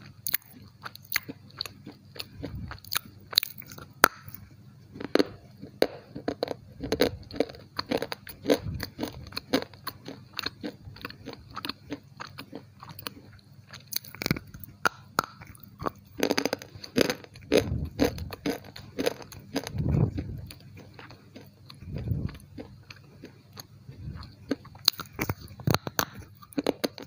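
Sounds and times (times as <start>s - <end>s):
crunching and chewing: 0.0s - 27.0s.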